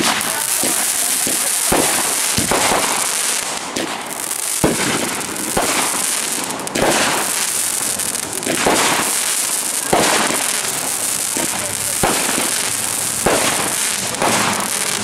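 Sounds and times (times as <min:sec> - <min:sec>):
firework bangs: 0:00.0 - 0:15.0
fireworks hissing and crackling: 0:00.0 - 0:15.0.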